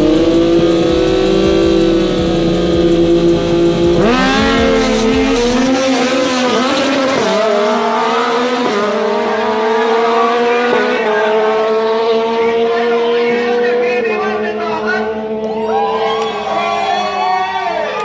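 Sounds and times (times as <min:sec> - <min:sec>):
superbike engines revving: 0:00.0 - 0:17.9.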